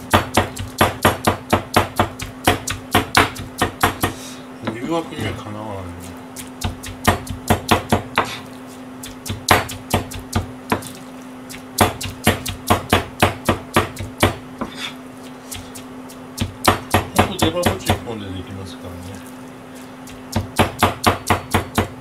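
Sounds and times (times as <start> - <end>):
knife chopping on cutting board: 0.0 - 4.2, 6.0 - 18.0, 20.0 - 22.0
steady low hum: 0.0 - 22.0.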